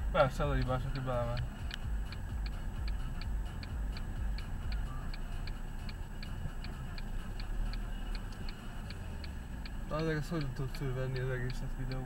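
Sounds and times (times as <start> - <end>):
car engine idling: 0.0 - 12.0
car indicator ticking: 0.0 - 12.0.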